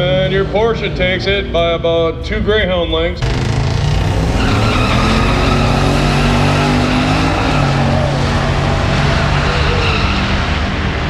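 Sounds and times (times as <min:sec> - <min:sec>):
race car engines at full throttle: 0:00.0 - 0:01.7, 0:03.2 - 0:11.0.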